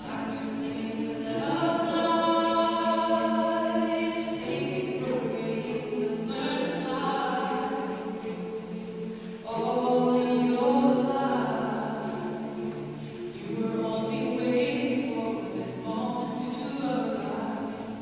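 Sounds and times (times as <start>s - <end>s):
mixed choir singing a cappella: 0.0s - 18.0s.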